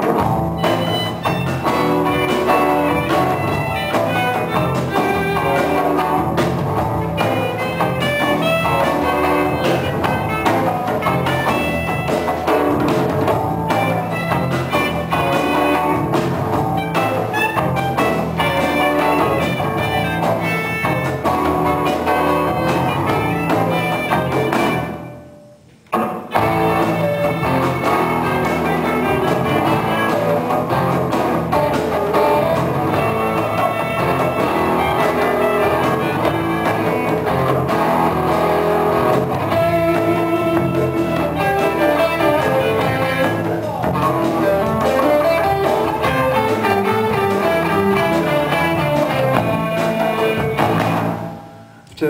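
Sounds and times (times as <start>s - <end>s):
violin: 0.0s - 12.8s, 13.6s - 25.1s, 26.3s - 51.1s
electric guitar: 0.0s - 52.0s
live band playing: 0.0s - 52.0s.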